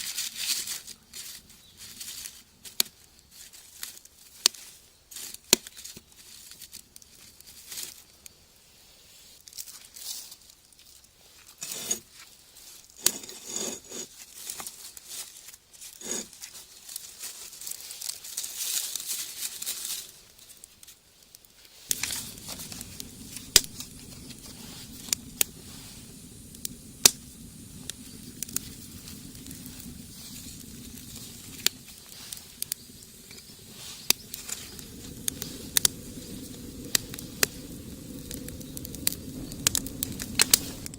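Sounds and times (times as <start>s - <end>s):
paper and kindling crumpling: 0.0s - 8.2s, 13.5s - 40.9s
wood fire burning and crackling: 0.0s - 8.4s, 13.1s - 40.9s.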